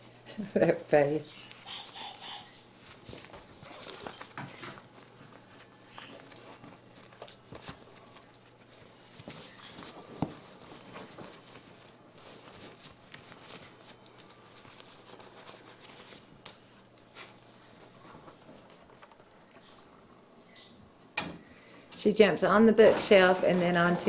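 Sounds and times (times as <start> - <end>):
rustling and scuffling on rug: 0.0 - 19.9, 22.6 - 24.0.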